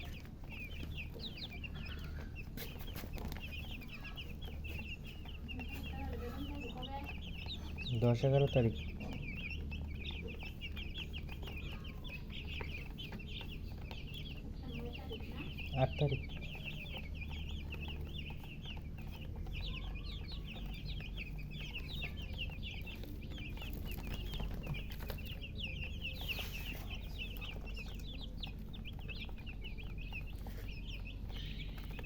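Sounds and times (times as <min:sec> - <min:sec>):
baby chicks cheeping: 0:00.0 - 0:32.0.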